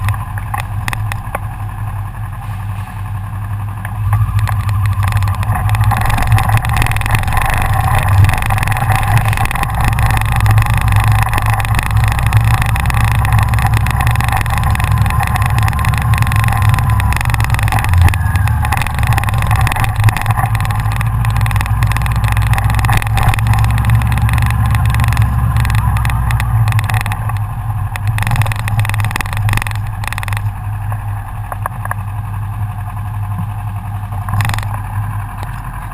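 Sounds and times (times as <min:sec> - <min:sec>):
engines humming: 0:00.0 - 0:35.9
low drone: 0:00.0 - 0:35.9.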